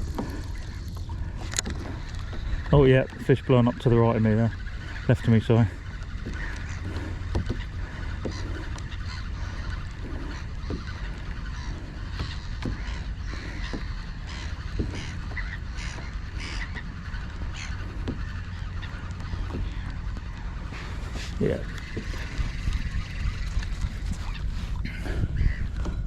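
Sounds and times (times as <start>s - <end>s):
seabirds calling harshly: 0.0s - 26.0s
wind and water rumble: 0.0s - 26.0s.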